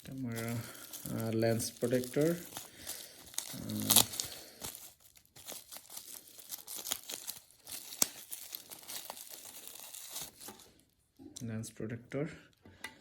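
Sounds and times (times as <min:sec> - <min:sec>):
packaging crinkling: 0:00.0 - 0:10.9.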